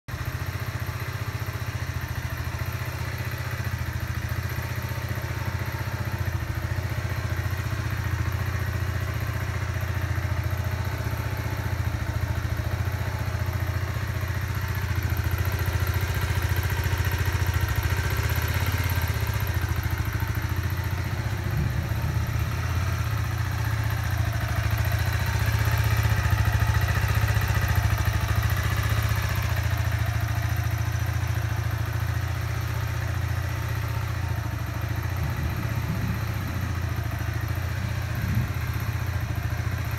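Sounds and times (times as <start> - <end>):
motorcycle engine idling with ticking: 0.1 - 39.9.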